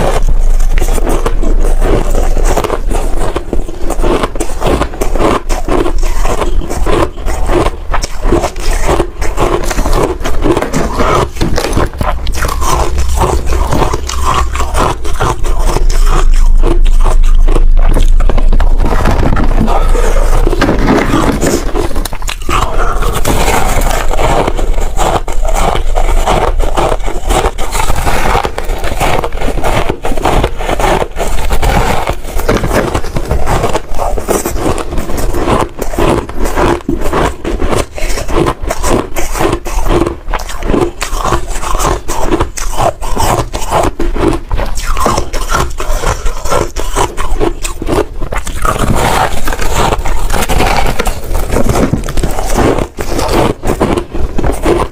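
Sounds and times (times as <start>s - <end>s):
shaved ice crunching: 0.0s - 54.9s.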